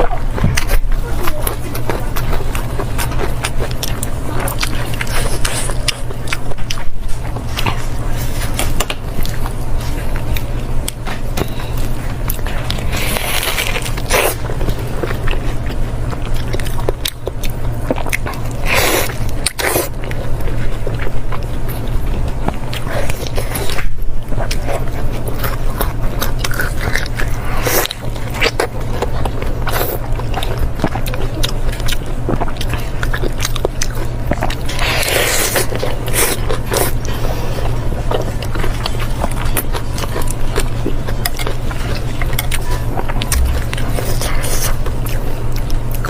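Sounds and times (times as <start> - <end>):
low hum: 0.0 - 46.0
person chewing meat: 0.0 - 46.0.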